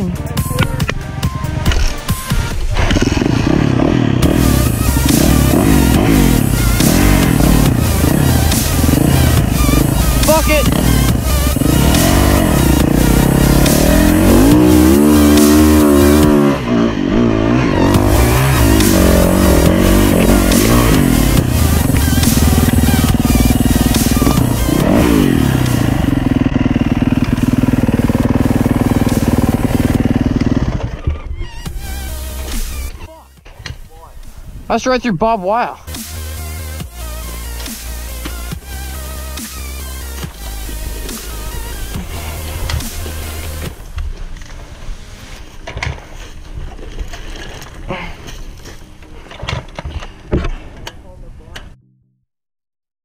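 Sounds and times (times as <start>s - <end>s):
dirt bike engine running: 0.4s - 33.1s, 34.8s - 50.3s.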